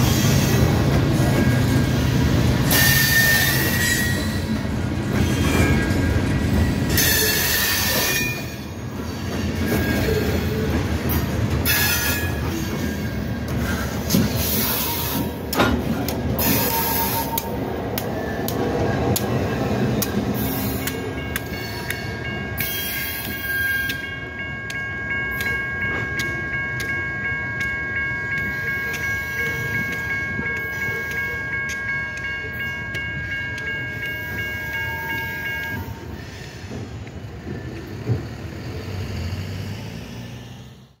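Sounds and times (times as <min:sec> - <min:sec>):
train wheels rumbling and clattering: 0:00.0 - 0:41.0.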